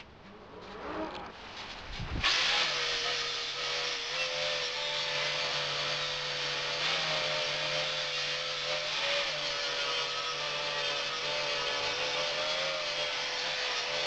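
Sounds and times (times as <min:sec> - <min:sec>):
power tool hissing and whining: 0:01.5 - 0:14.0.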